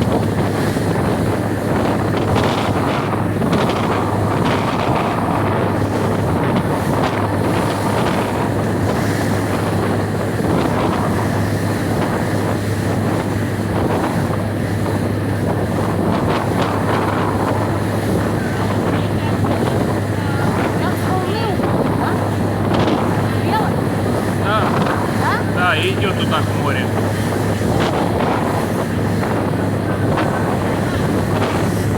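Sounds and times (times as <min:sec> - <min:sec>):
motorboat engine running: 0:00.0 - 0:31.9
water rushing along hull: 0:00.0 - 0:31.9
wind buffeting microphone: 0:00.0 - 0:31.9.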